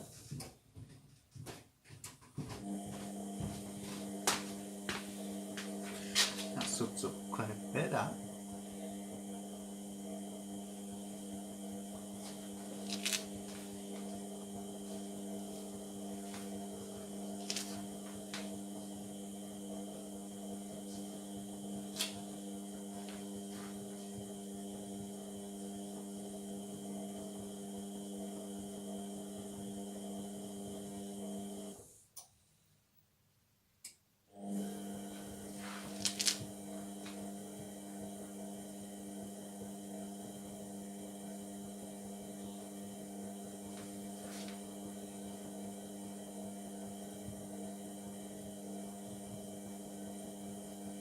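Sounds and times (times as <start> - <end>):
washing machine motor hum: 2.1 - 32.0, 34.3 - 51.0.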